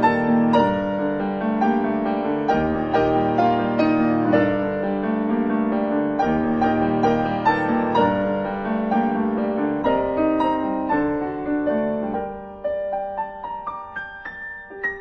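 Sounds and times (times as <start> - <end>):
solo piano chords and melody: 0.0 - 15.0.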